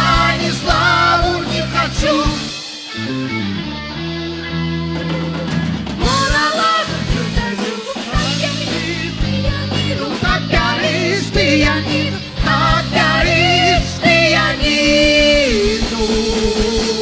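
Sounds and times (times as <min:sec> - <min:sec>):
guitar: 0:00.0 - 0:17.0
rock band music: 0:00.0 - 0:17.0.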